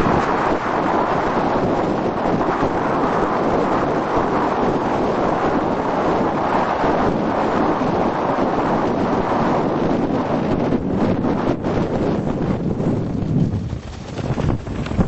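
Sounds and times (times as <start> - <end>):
wind across microphone: 0.0 - 15.0.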